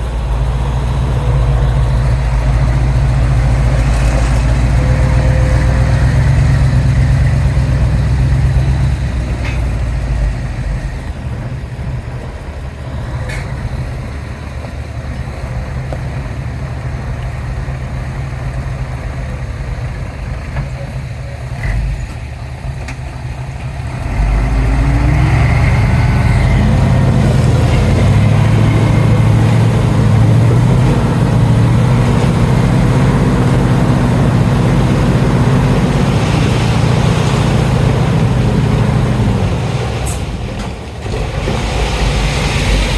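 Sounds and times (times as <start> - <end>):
heavy machinery diesel engines revving: 0.0 - 42.9.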